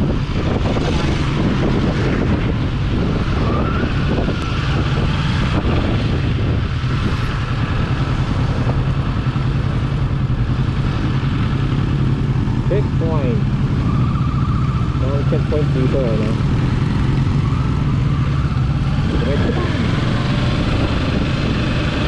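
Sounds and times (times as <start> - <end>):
motorcycle engine hum: 0.0 - 22.0
road noise: 0.0 - 22.0
wind noise: 0.0 - 22.0.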